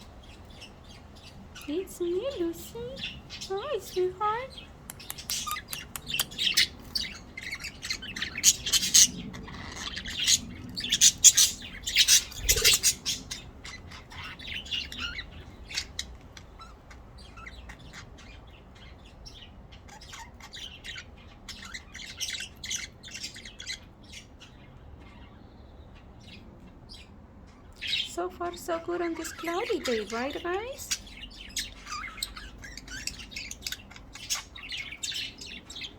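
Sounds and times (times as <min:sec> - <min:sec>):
budgerigars chirping: 0:00.0 - 0:35.9.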